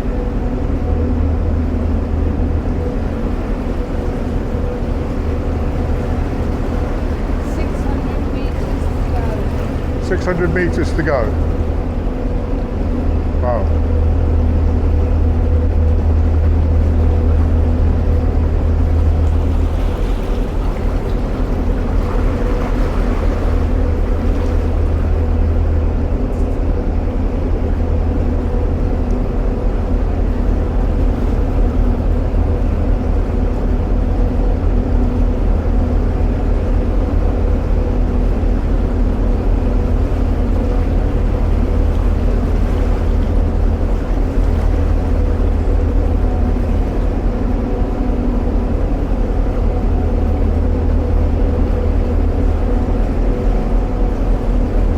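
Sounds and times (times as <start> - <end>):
boat diesel engine running: 0.0 - 54.9
faint steady hum: 0.0 - 54.9.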